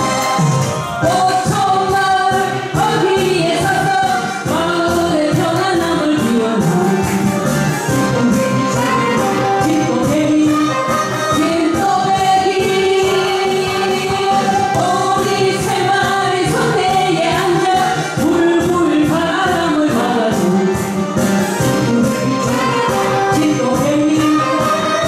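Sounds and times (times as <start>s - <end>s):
women singing into microphones: 0.0s - 7.2s, 7.9s - 20.9s, 21.6s - 25.0s
amplified backing track with beat: 0.0s - 25.0s.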